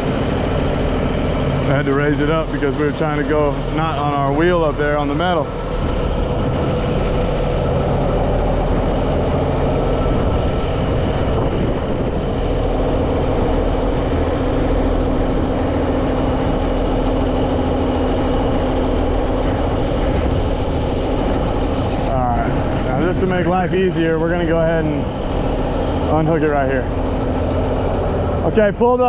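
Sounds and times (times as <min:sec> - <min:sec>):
heavy diesel truck engine: 0:00.0 - 0:29.0.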